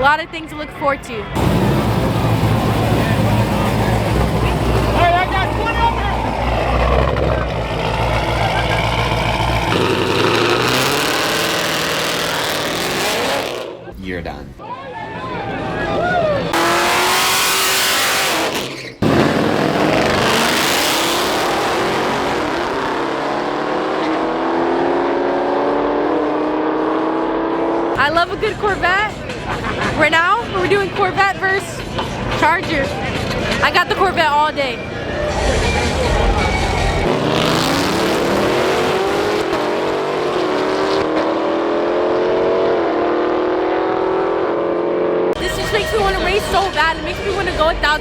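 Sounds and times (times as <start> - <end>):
drag-racing engines at full throttle: 1.0 - 13.9, 14.9 - 48.0.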